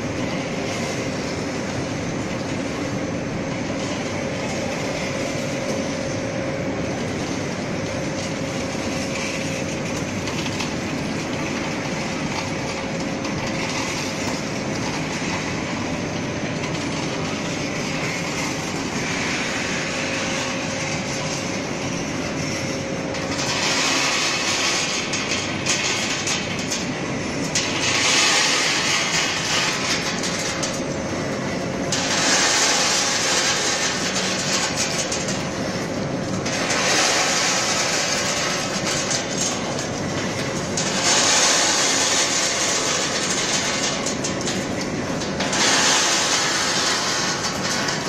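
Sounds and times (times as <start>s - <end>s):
conveyor machinery clicking: 0.0s - 48.0s.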